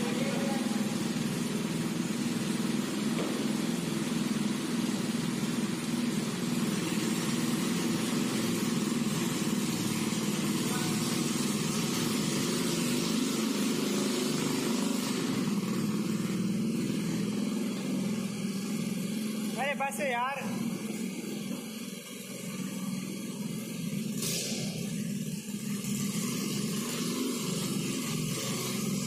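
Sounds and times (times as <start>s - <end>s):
go-kart engine idling: 0.0s - 29.0s.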